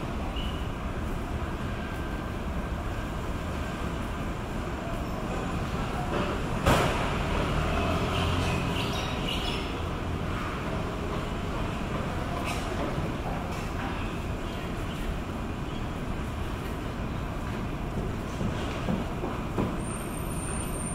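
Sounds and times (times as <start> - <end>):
street ambience rumble: 0.0 - 20.9.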